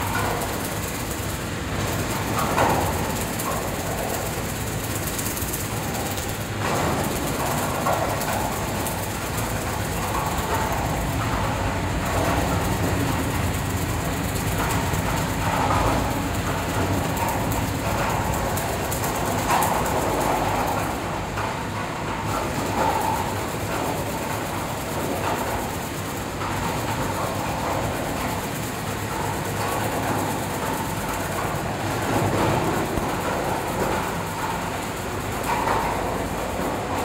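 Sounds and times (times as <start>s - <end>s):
cutting machine hum and rattle: 0.0s - 37.0s.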